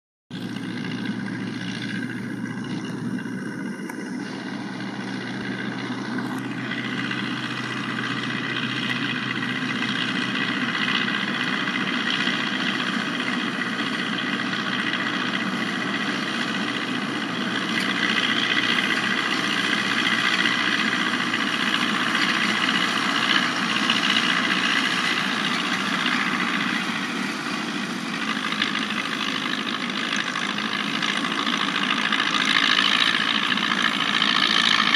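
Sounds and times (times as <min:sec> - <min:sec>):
straw chopper rushing noise: 0:00.3 - 0:34.9
tractor engine running: 0:00.3 - 0:34.9.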